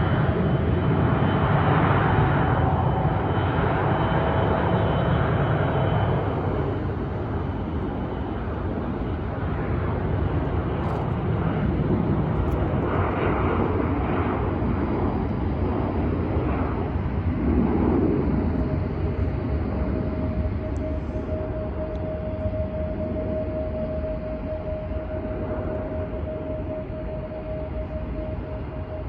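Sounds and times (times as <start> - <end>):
airliner engines rumbling: 0.0 - 29.0
faint engine whine: 0.0 - 29.0.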